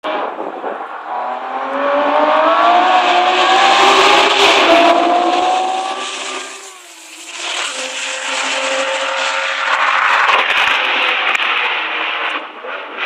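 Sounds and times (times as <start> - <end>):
racing car engine accelerating: 0.1 - 12.8.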